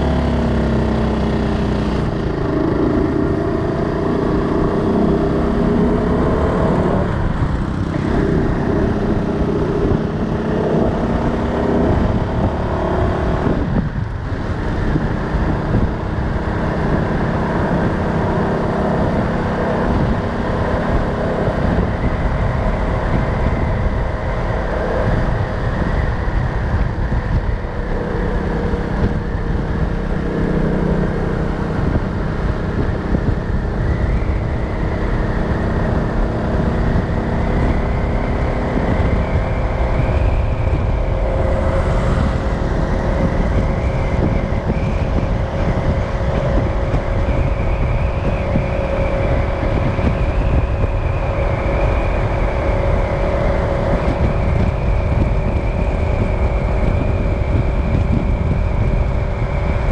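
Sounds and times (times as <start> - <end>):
motorbike engines revving: 0.0 - 59.9
steady low traffic rumble: 0.0 - 59.9.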